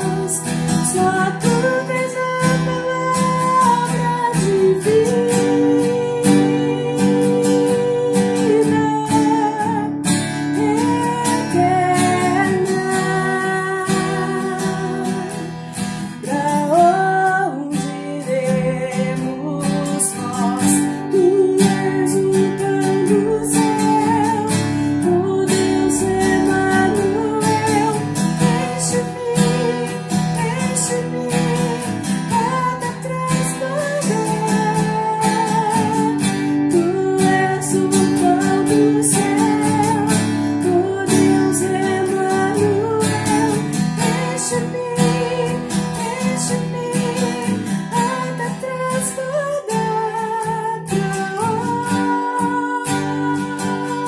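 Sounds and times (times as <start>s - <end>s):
strummed acoustic guitar: 0.0s - 54.0s
woman singing: 0.0s - 54.0s.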